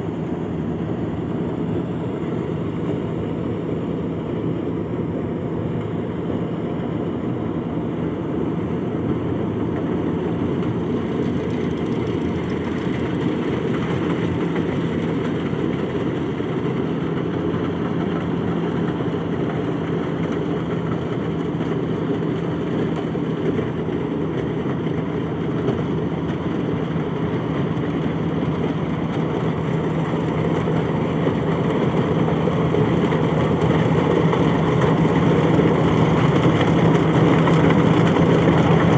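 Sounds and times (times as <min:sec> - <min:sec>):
harvester engine drone: 0:00.0 - 0:38.9.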